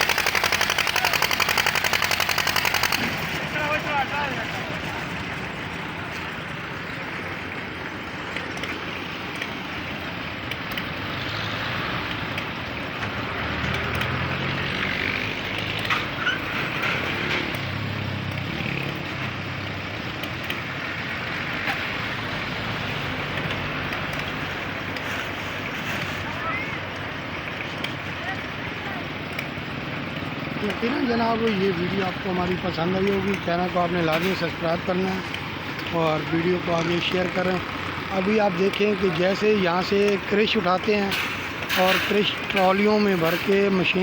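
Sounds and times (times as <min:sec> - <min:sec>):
concrete mixer engine running: 0:00.0 - 0:44.0.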